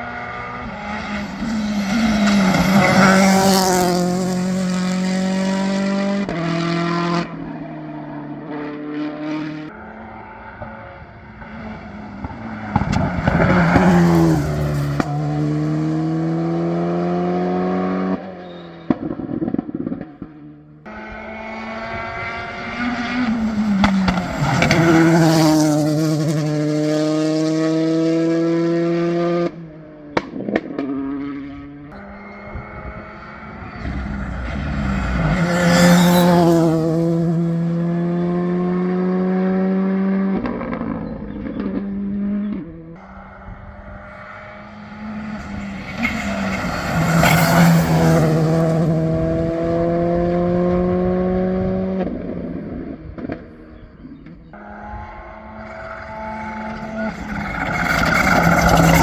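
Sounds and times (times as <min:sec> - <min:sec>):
rally car engines accelerating: 0:00.0 - 0:59.0.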